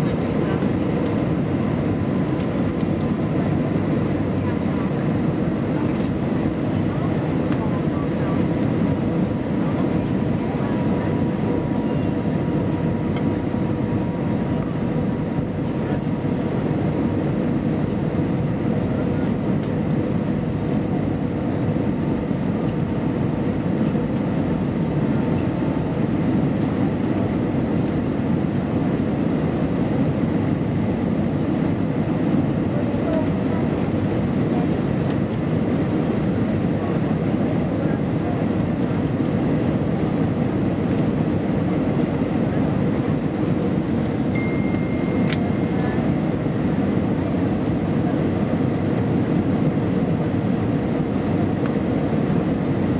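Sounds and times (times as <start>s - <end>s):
airplane cabin engine roar: 0.0s - 52.9s.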